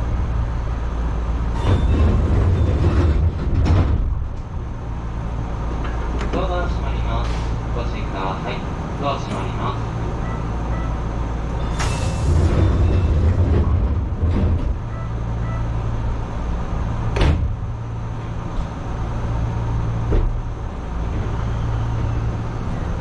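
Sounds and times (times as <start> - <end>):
electric train hum: 0.0 - 23.0.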